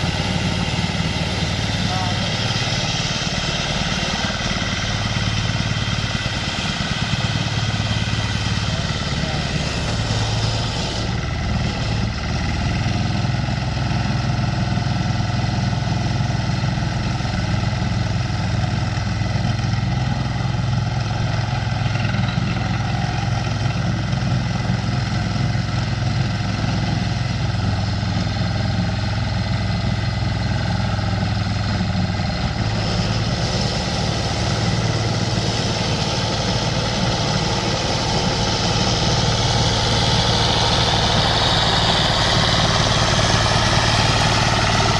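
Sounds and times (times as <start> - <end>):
lawn mower diesel engine running: 0.0 - 44.9.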